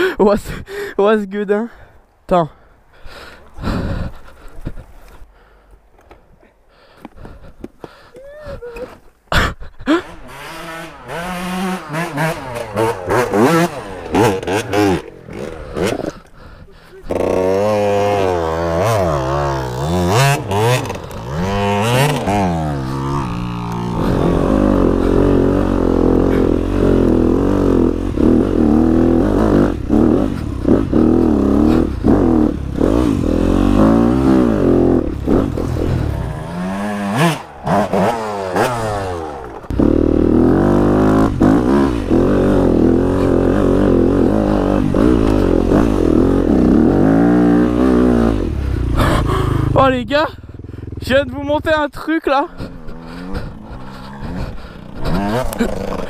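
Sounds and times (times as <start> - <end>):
motorbike engine revving: 9.9 - 51.6, 52.4 - 56.0.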